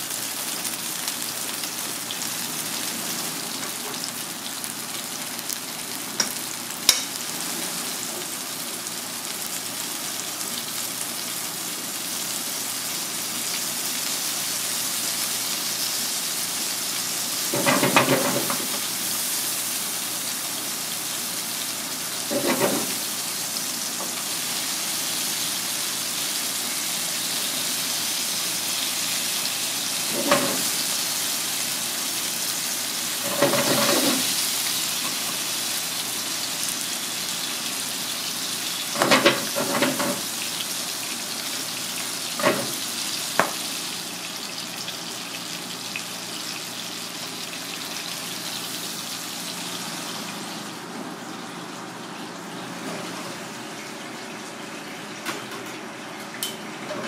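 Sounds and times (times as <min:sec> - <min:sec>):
fish fillets sizzling in a pan: 0:00.0 - 0:52.8.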